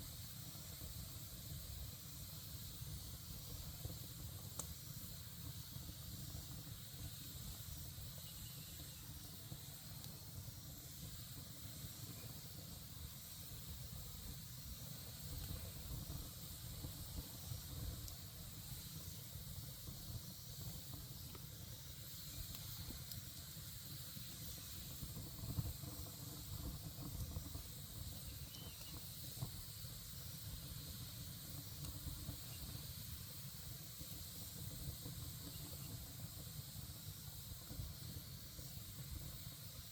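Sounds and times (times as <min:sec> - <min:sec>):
campfire burning: 0:00.0 - 0:39.9
fire pops: 0:00.0 - 0:39.9.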